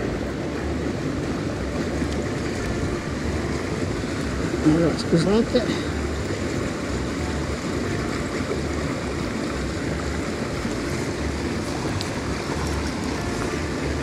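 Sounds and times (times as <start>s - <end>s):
low rumbles: 0.0s - 14.0s
mountain stream running: 0.0s - 14.0s.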